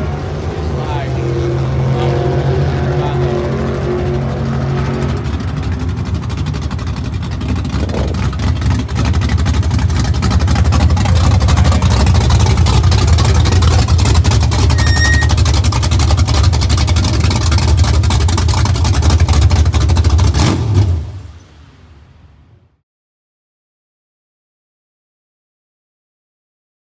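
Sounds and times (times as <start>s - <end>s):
vee eight engine running: 0.0s - 21.6s.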